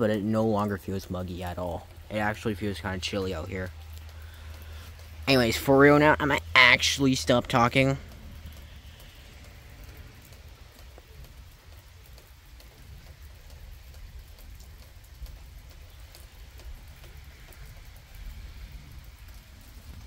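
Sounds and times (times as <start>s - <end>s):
raindrops ticking on a surface: 0.0s - 20.0s.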